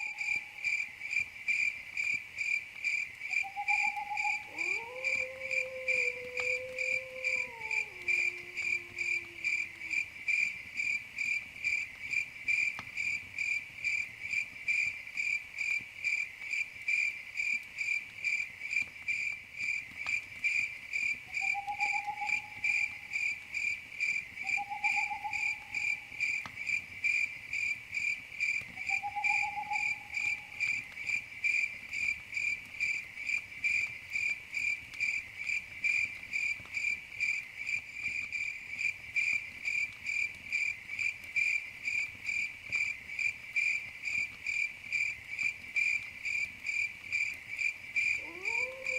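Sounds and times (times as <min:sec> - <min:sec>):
crickets chirping: 0:00.0 - 0:48.9.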